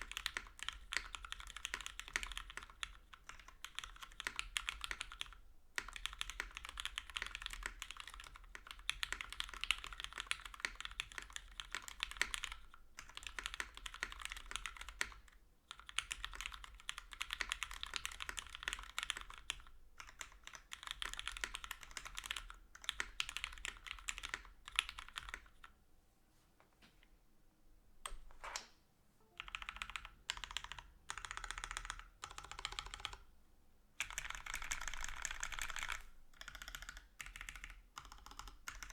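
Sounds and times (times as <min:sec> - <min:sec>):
mechanical keyboard typing: 0:00.0 - 0:25.8, 0:29.4 - 0:33.2, 0:34.0 - 0:38.9.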